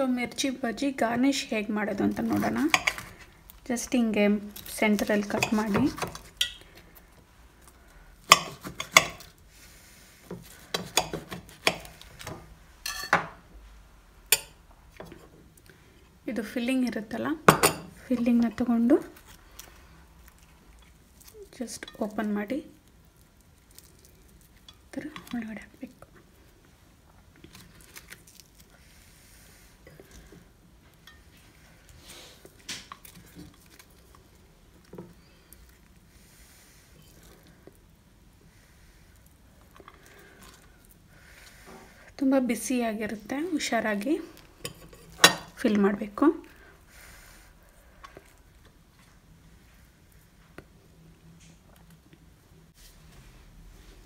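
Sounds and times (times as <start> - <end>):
rustling of fried food: 0.7 - 12.6, 17.9 - 54.0.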